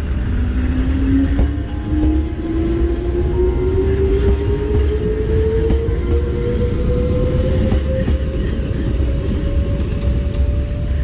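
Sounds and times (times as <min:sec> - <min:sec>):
train running by: 0:00.0 - 0:11.0.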